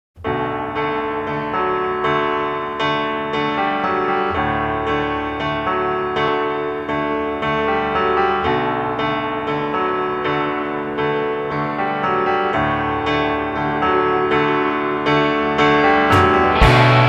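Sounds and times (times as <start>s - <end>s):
piano music: 0.2s - 17.0s.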